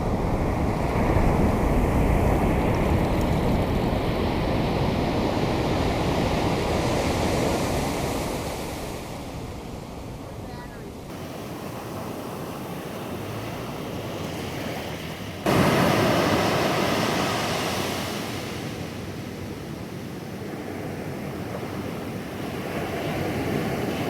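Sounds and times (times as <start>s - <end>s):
ocean surf washing onto beach: 0.0s - 24.0s
wind on microphone: 0.0s - 24.0s.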